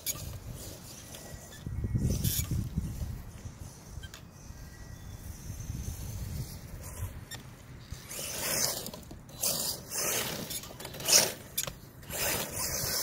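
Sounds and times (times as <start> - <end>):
rc car tyres scraping asphalt: 0.0 - 4.2, 5.2 - 13.0.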